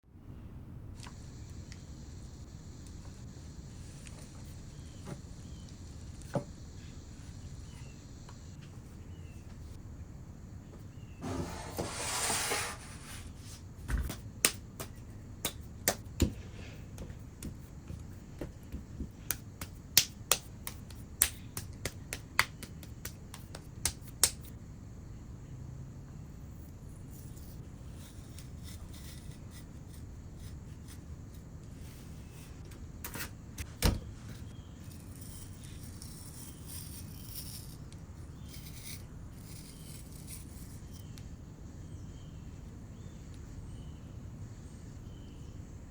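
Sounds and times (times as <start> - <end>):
faint steady background noise: 0.0 - 45.9.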